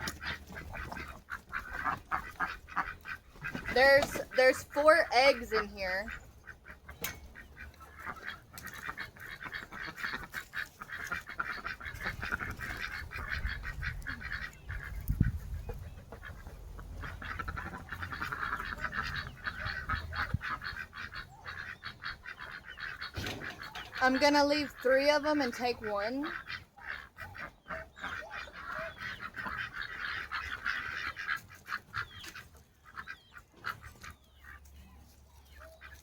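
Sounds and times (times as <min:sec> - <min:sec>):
ducks quacking: 0:00.0 - 0:36.0.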